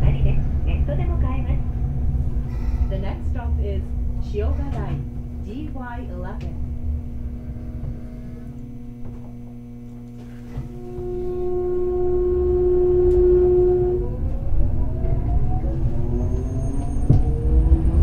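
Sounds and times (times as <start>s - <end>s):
tram inverter whine rising in pitch: 0.0s - 18.0s.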